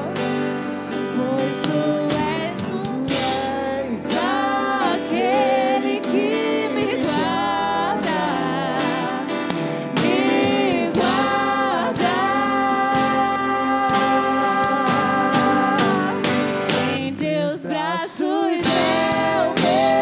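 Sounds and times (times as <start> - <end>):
acoustic guitar: 0.0 - 20.0
person singing: 0.0 - 20.0.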